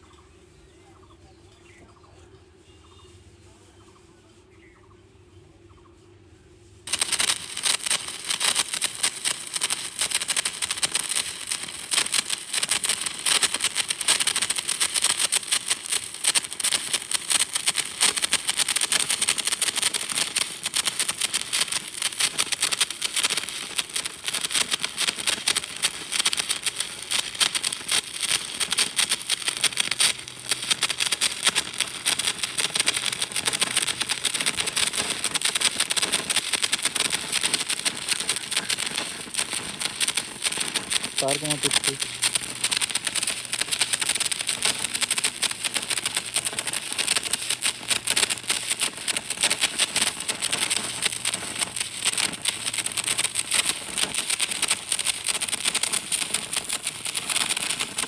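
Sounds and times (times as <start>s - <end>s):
welding arc crackling: 6.8s - 58.0s.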